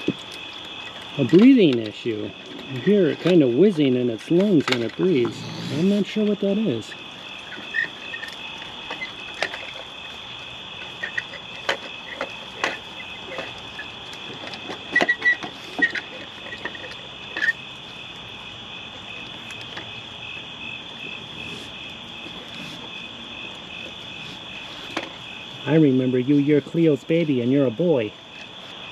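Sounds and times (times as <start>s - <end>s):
insects trilling: 0.0s - 28.9s.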